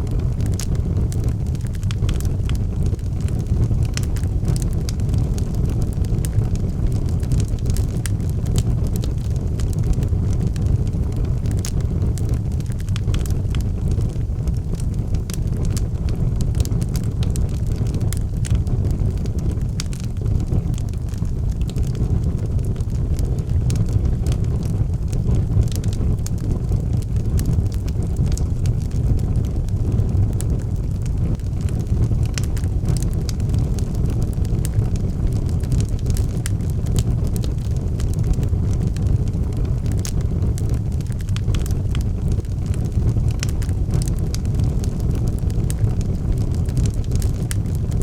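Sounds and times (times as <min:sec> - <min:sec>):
flames rumbling: 0:00.0 - 0:48.0
wood fire crackling: 0:00.0 - 0:48.0.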